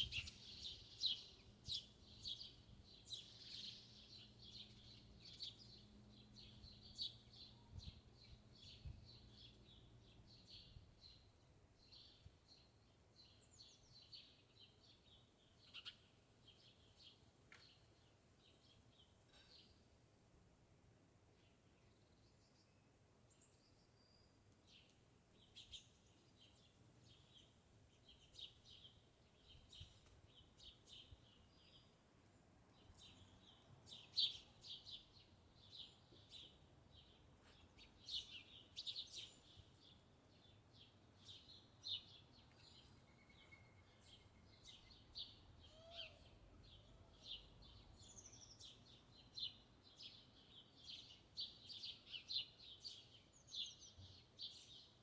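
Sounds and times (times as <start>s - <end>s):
small birds chirping and twittering: 0.0s - 20.0s, 21.3s - 55.0s.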